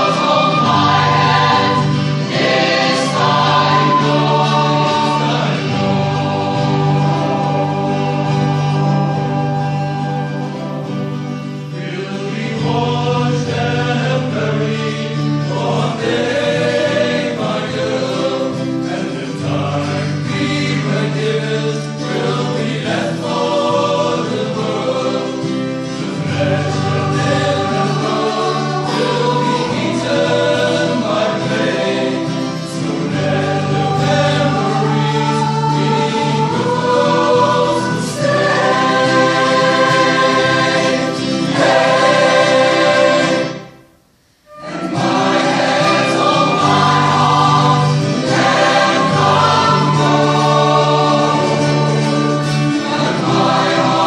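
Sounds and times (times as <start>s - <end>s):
choir singing: 0.0s - 43.8s, 44.5s - 54.0s.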